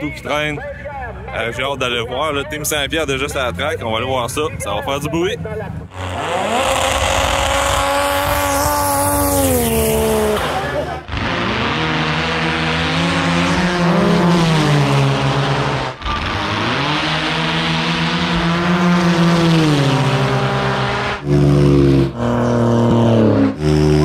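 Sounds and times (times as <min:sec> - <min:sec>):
snowmobile engines at full throttle: 0:01.3 - 0:24.0.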